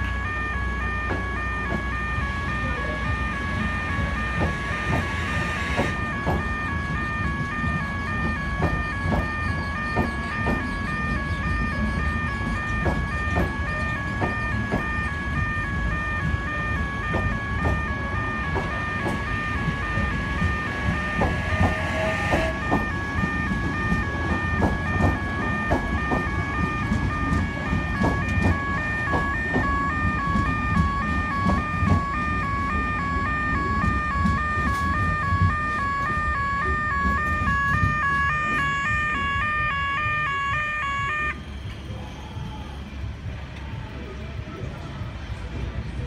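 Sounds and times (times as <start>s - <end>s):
level crossing alarm two-note: 0.0s - 9.4s, 11.9s - 41.4s
train wheels clacking on rails: 0.0s - 39.4s
electric train rumbling past: 0.0s - 46.0s.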